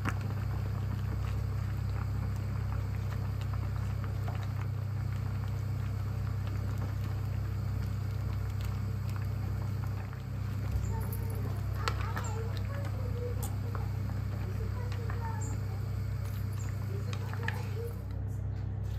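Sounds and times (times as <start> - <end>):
broth simmering: 0.0 - 18.9
steady low hum: 0.0 - 18.9.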